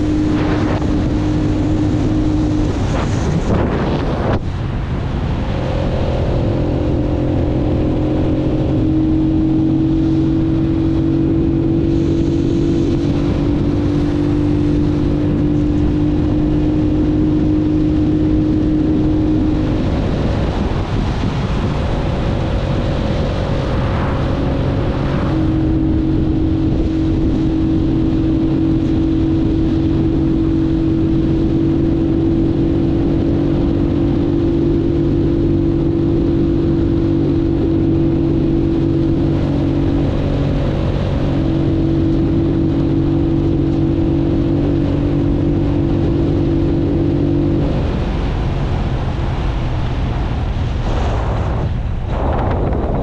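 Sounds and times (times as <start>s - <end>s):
motorcycle engine running: 0.0s - 53.0s
wind rushing over microphone: 0.0s - 53.0s.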